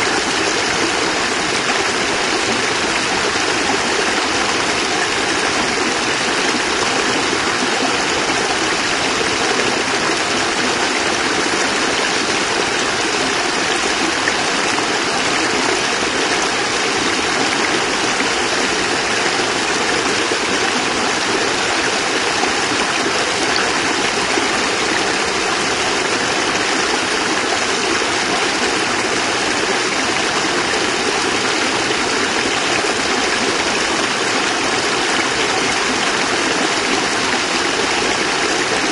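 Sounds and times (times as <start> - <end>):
water pouring over cascade: 0.0 - 38.9.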